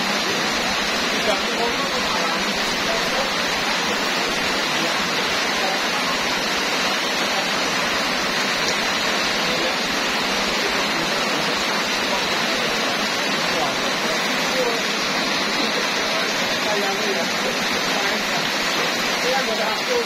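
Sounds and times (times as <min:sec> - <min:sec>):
heavy rain on street and roofs: 0:00.0 - 0:20.0.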